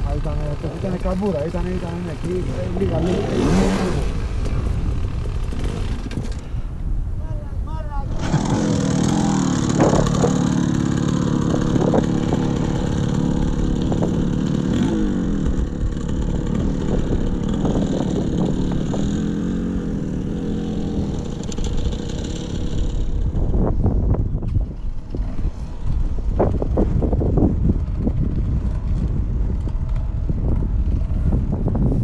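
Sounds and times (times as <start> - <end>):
dirt bike engines revving: 0.0 - 6.7, 8.0 - 32.0
wind rumble on microphone: 0.0 - 32.0.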